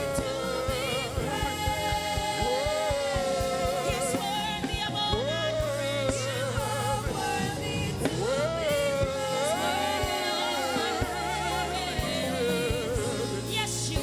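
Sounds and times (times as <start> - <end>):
band with bass and drums: 0.0 - 14.0.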